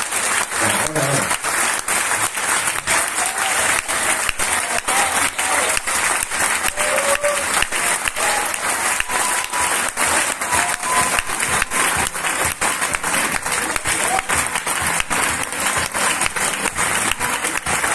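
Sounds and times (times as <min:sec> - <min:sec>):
audience applauding: 0:00.0 - 0:17.9.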